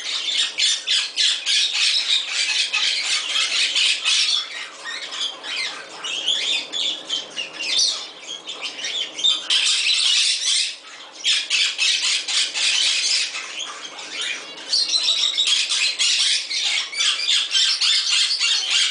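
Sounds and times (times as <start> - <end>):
cockatoo squawking: 0.0 - 18.9.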